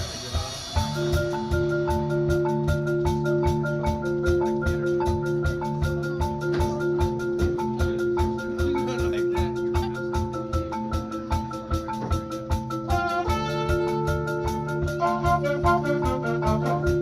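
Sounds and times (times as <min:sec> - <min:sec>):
mallet percussion pattern: 0:00.0 - 0:17.0
steady low beat: 0:00.0 - 0:17.0.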